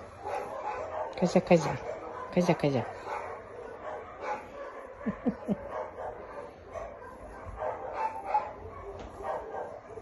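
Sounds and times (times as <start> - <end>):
dogs barking: 0.0 - 10.0.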